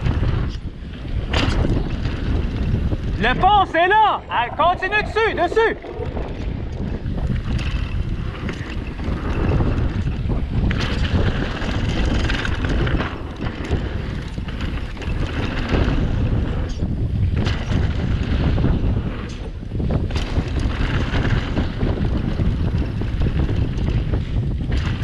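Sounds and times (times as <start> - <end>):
bike knocking over rough ground: 0.0 - 3.2, 5.8 - 25.0
wind on camera microphone: 0.0 - 25.0.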